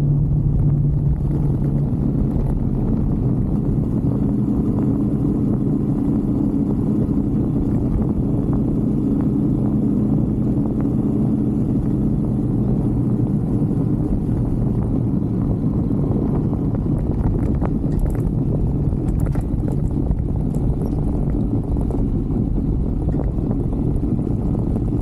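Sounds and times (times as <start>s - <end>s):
motorbike engine running: 0.0s - 25.0s.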